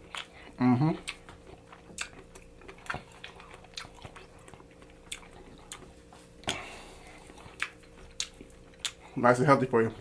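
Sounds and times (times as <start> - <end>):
person chewing broccoli: 0.0 - 9.2.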